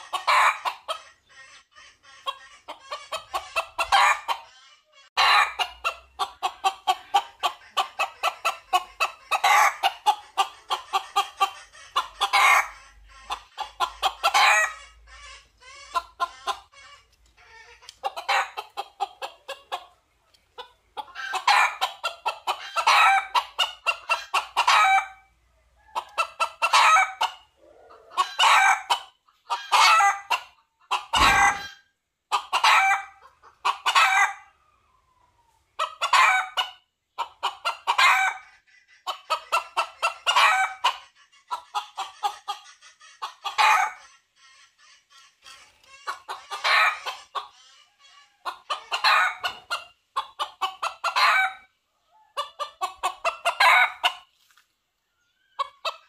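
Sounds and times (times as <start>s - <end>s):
rooster clucking and crowing: 0.0s - 20.0s, 20.6s - 34.6s, 35.8s - 44.8s, 45.4s - 54.3s, 55.3s - 56.0s.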